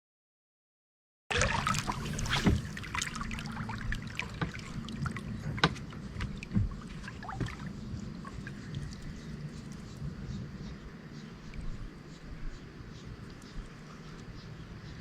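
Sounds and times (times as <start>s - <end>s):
boat engine low hum: 1.3s - 15.0s.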